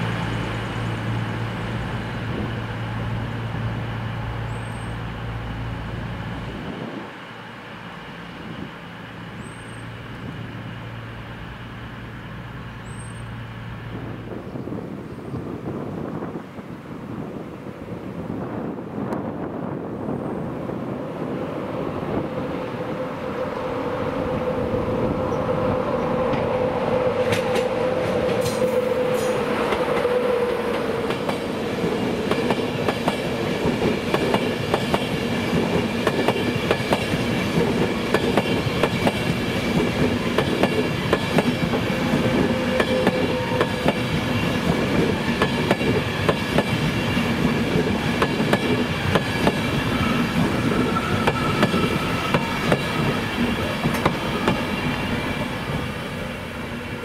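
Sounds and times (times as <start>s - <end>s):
train rumbling past: 0.0s - 57.0s.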